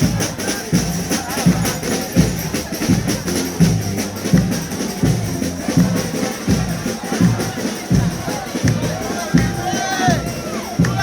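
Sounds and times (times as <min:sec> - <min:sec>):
street band brass and drums: 0:00.0 - 0:11.0.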